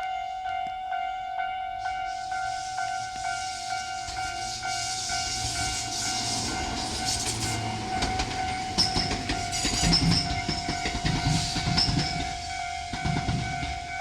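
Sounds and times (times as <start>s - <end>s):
level crossing warning bell: 0.0s - 14.0s
train wheels clattering: 1.8s - 14.0s.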